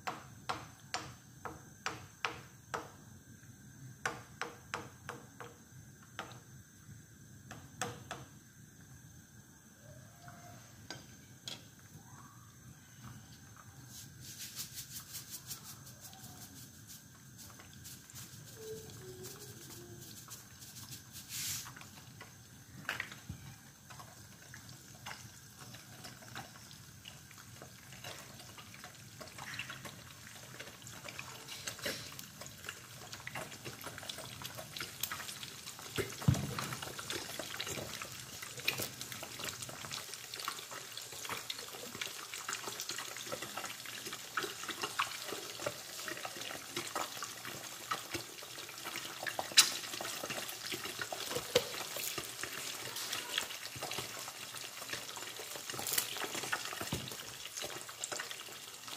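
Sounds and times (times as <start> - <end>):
eggs sizzling in oil: 0.0 - 58.9.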